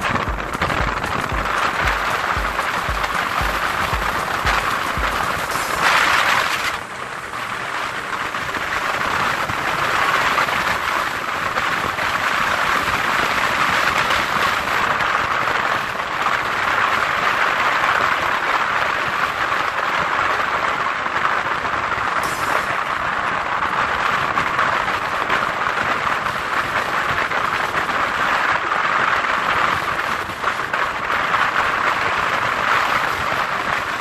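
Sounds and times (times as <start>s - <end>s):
tyre and wind noise: 0.0s - 34.0s.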